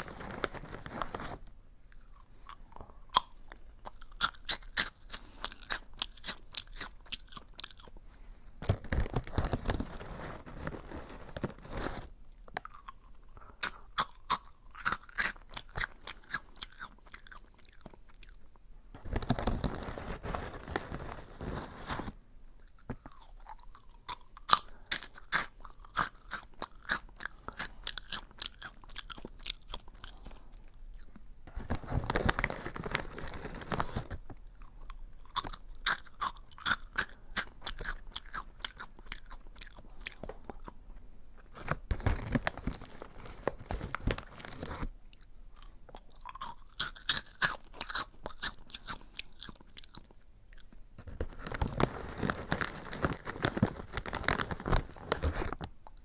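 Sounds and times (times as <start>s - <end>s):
crunchy snack chewing: 0.0s - 8.0s, 8.6s - 22.0s, 22.6s - 40.8s, 41.5s - 55.6s.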